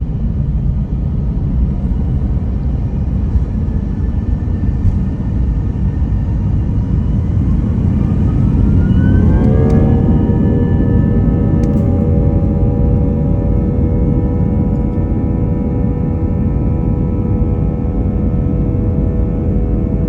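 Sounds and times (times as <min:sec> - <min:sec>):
jet engines rumbling: 0:00.0 - 0:20.0
jet engines whine spooling up: 0:00.0 - 0:20.0.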